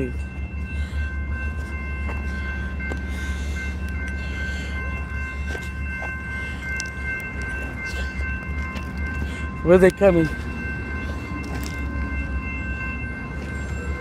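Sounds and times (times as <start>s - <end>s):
high ringing tones: 0.0s - 14.0s
train rumbling: 0.0s - 14.0s.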